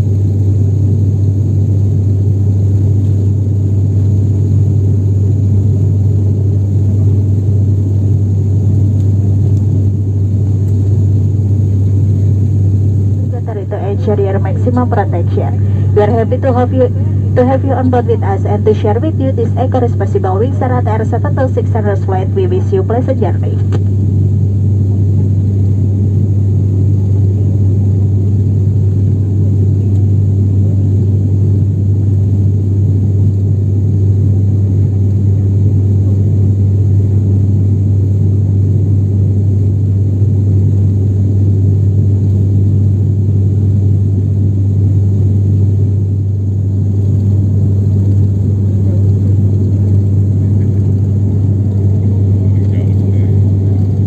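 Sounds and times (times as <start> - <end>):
turboprop cabin drone: 0.0 - 54.0.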